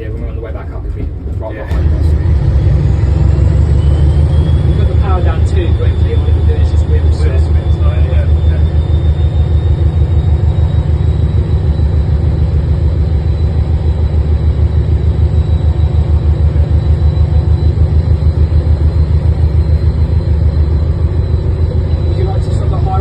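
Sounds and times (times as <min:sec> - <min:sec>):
faint high whine: 0:00.0 - 0:23.0
locomotive engine rumbling: 0:00.0 - 0:23.0.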